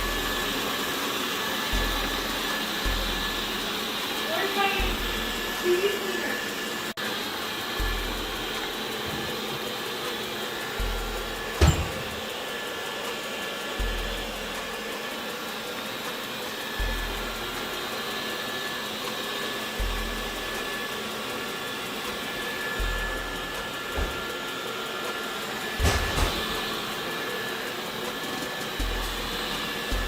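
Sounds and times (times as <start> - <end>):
robot vacuum whirring: 0.0 - 30.0.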